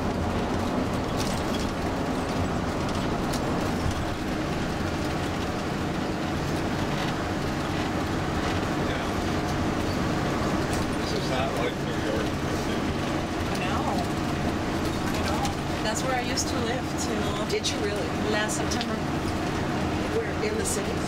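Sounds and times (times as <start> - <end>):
bus engine and road noise: 0.0 - 21.0.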